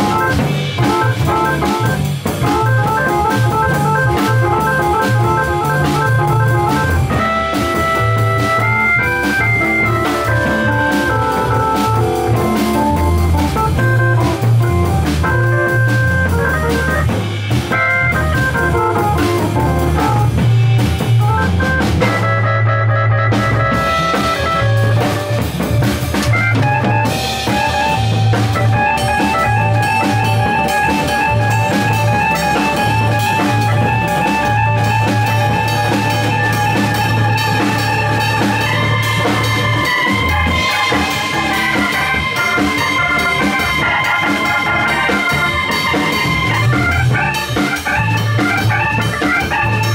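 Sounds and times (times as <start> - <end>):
low bass line: 0.0 - 40.7
drums: 0.0 - 49.9
organ playing melodic runs: 0.0 - 49.9.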